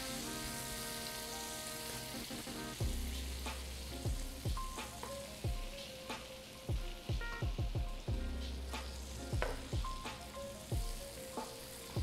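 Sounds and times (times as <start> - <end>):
butter sizzling in wok: 0.0 - 12.0.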